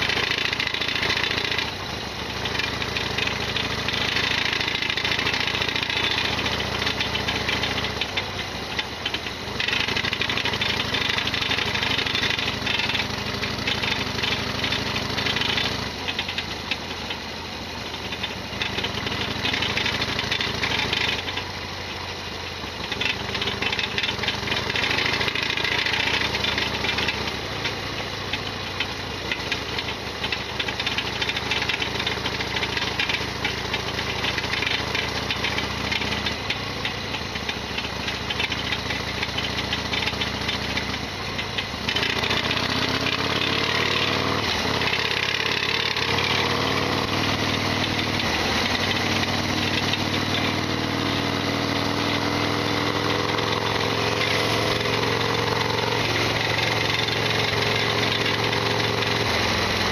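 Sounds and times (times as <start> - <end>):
motorcycle engine rattling: 0.0 - 59.9.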